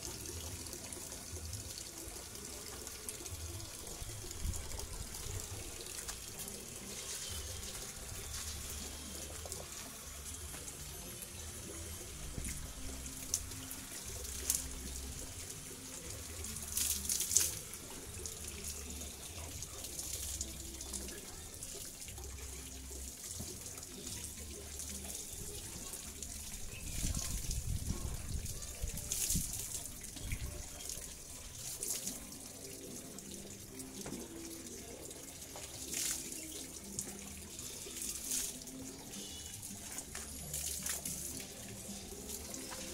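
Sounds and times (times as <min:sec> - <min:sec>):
water running from a hose: 0:00.0 - 0:42.9.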